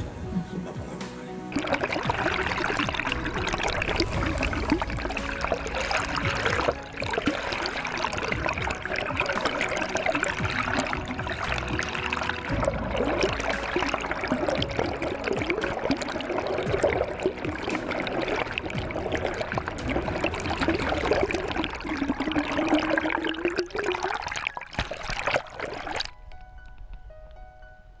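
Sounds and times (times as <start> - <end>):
water rushing underwater: 1.5 - 26.2.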